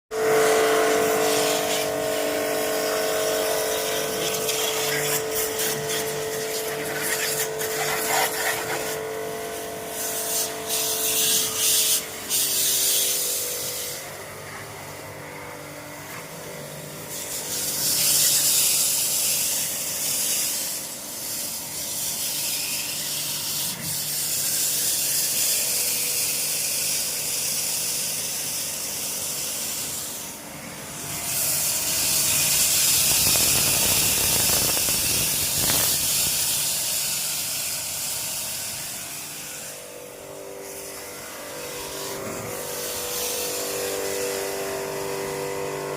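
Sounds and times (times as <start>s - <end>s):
pump humming: 0.1s - 45.9s
pressure washer water jet hissing: 0.2s - 14.6s, 16.1s - 45.7s.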